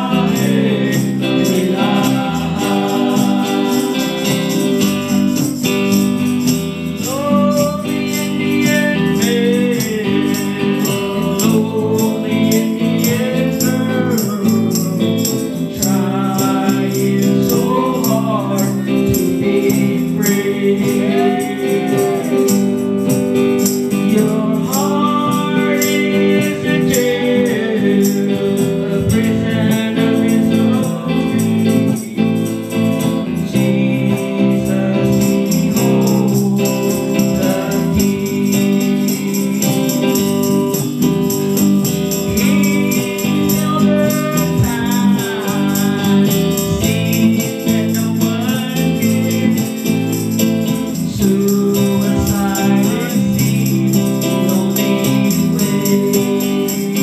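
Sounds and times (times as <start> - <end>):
amplified electric guitars: 0.0 - 57.0
person singing into microphone: 0.0 - 57.0
shaken jingling percussion: 0.0 - 57.0.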